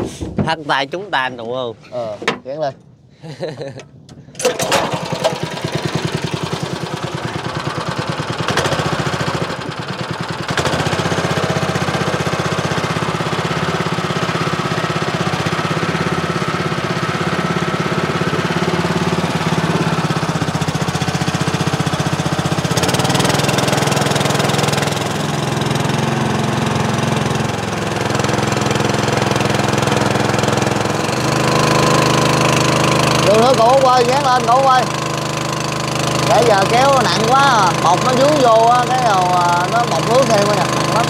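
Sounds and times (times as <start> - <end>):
small engine running: 3.3 - 41.0.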